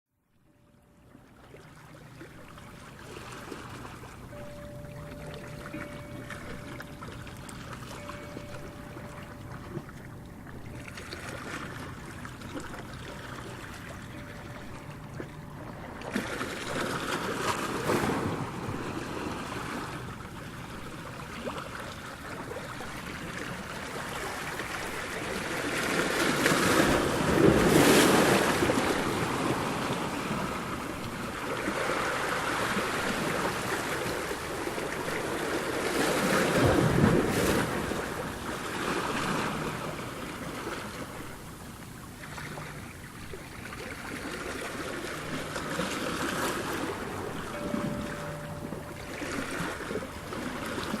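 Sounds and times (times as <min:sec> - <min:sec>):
waves breaking: 0:01.4 - 0:51.0.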